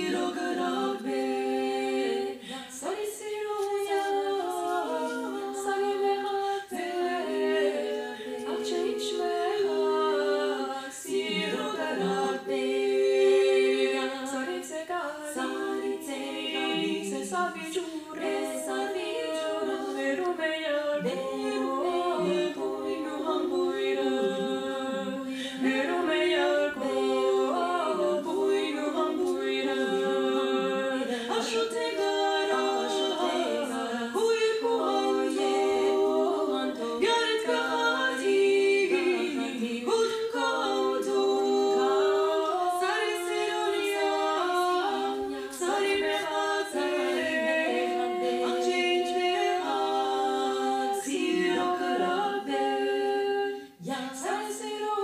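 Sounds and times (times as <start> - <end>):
women singing in close harmony: 0.0 - 55.0.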